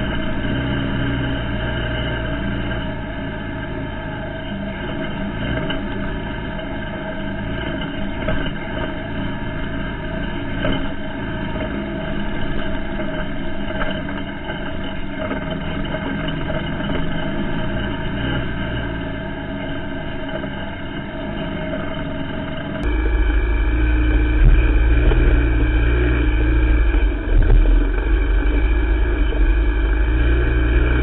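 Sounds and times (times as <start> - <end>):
quad bike engine running: 0.0 - 31.0.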